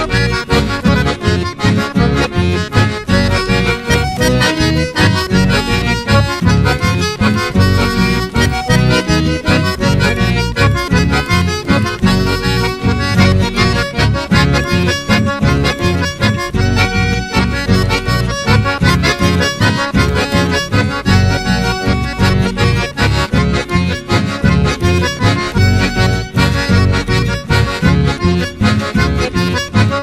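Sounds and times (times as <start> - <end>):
accordion dance music: 0.0 - 30.0.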